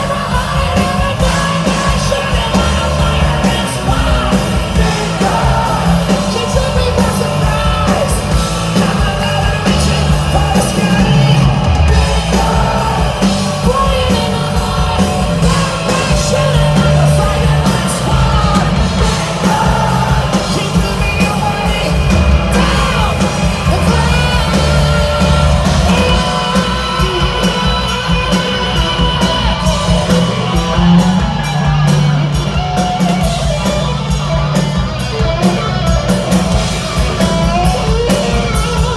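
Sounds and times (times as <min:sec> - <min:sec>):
live rock band playing: 0:00.0 - 0:38.9
man singing and yelling: 0:00.0 - 0:38.9.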